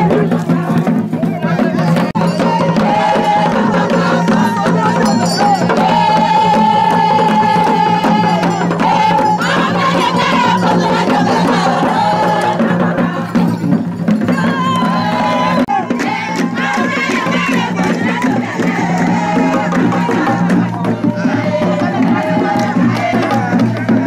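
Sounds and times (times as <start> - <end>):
crowd noise: 0.0 - 24.0
shaken and struck percussion: 0.0 - 24.0
voices singing: 0.0 - 24.0.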